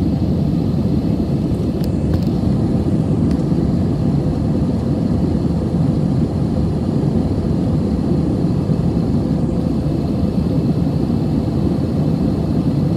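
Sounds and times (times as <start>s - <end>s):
aircraft cabin engine rumble: 0.0s - 12.9s
faint steady hum: 0.0s - 12.9s.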